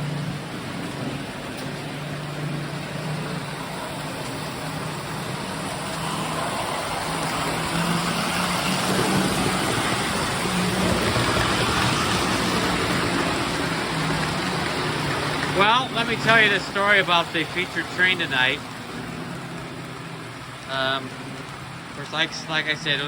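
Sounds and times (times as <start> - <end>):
electric toy train motor hum: 0.0 - 23.0
rumble of train wheels on track: 0.0 - 23.0.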